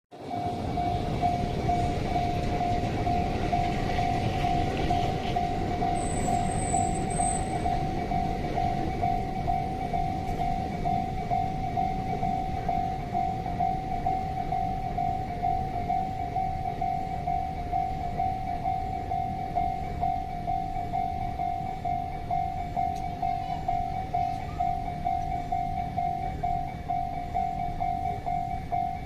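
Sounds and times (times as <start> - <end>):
level crossing bell ringing: 0.2 - 29.0.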